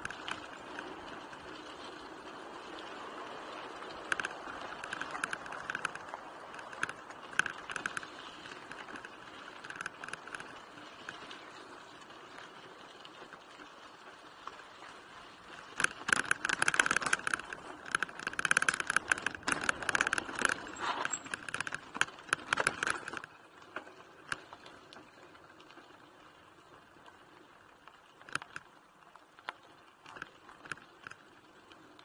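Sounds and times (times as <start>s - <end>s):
bike rattling and clicking: 0.0s - 32.0s
tyres rolling on dirt: 0.0s - 32.0s.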